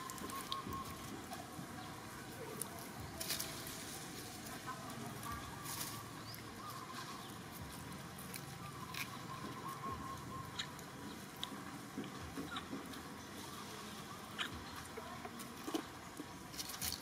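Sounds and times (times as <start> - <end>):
dry leaves rustling on pavement: 0.0 - 17.0
outdoor background hiss: 0.0 - 17.0.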